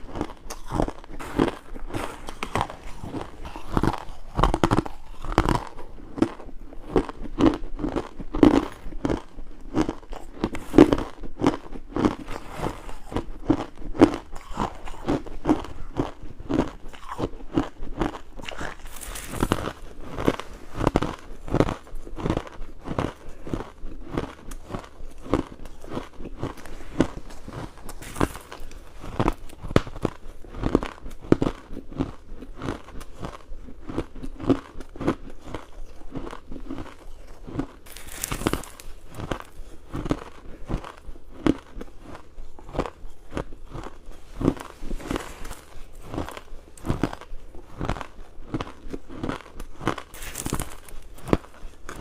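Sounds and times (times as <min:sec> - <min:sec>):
ice being crunched and chewed: 0:00.0 - 0:52.0.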